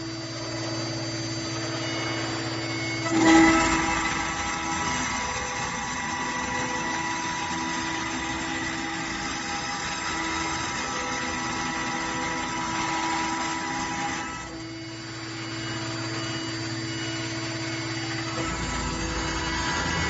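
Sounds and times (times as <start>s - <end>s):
metal cutting noise: 0.0s - 20.0s
router spindle whine: 0.0s - 20.0s.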